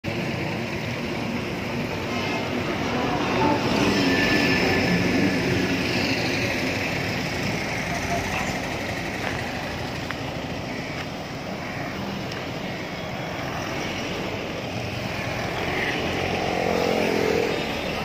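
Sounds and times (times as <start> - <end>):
cars driving past: 0.1 - 18.0.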